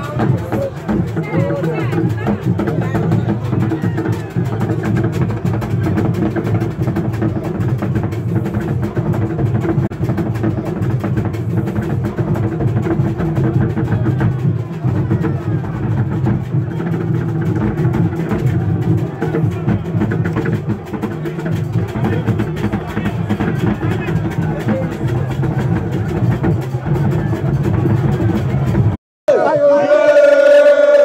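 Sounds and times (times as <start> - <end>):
barrel drums beaten fast: 0.0 - 29.0.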